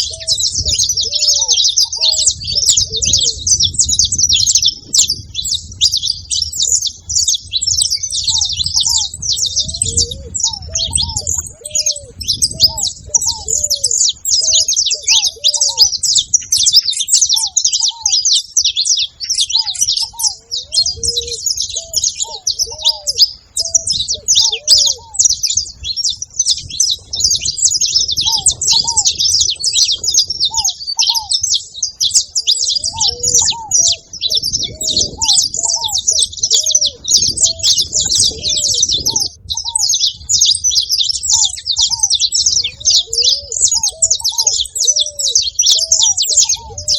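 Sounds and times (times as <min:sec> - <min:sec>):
finches chirping and singing: 0:00.0 - 0:46.9
lower arched bird notes: 0:00.0 - 0:46.9.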